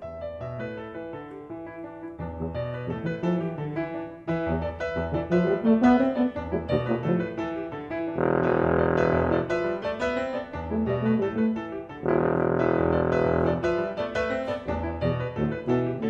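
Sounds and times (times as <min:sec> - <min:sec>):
piano chords: 0:00.0 - 0:16.0
tuba: 0:01.6 - 0:16.0.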